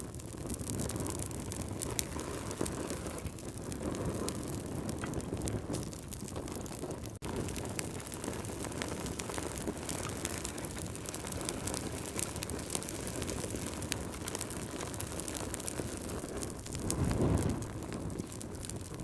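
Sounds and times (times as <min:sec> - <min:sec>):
fireplace fire crackling: 0:00.0 - 0:19.0.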